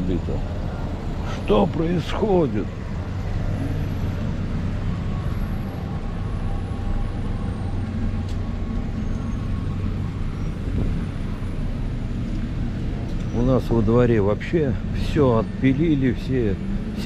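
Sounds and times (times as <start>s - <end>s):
car and bus engines idling: 0.0s - 17.0s.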